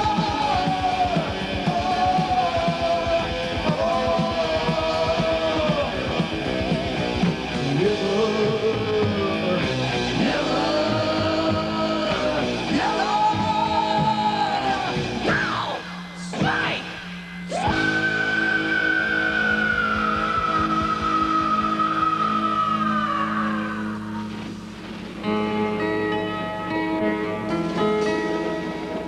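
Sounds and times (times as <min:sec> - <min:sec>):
heavy metal band playing: 0:00.0 - 0:26.2.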